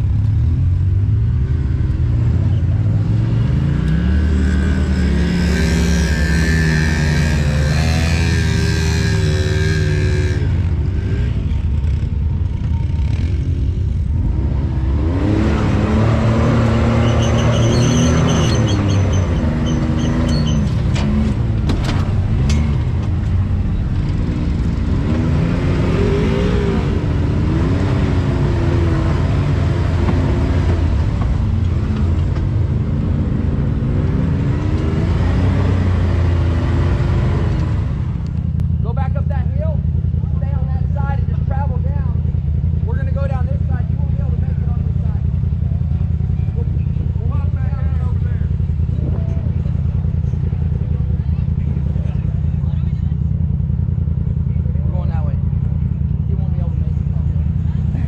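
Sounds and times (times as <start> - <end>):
utv engine revving: 0.0 - 58.0.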